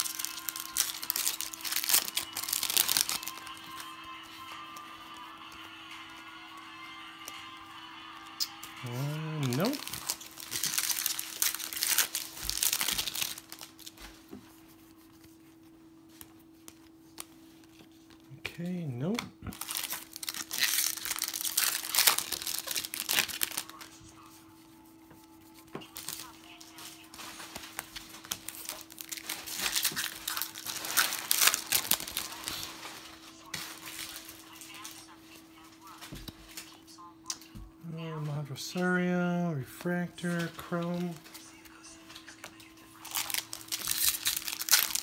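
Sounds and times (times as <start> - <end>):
foil wrapper crinkling: 0.0 - 7.6, 8.2 - 18.3, 19.5 - 24.3, 25.3 - 36.8, 39.7 - 45.0.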